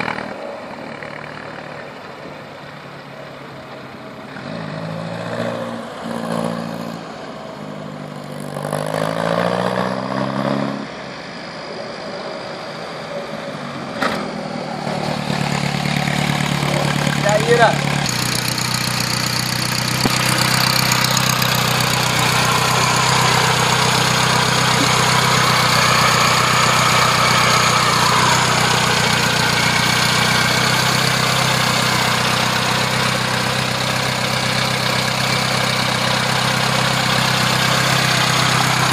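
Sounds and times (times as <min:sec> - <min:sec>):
car engine idling: 0:00.0 - 0:04.4, 0:11.2 - 0:38.9.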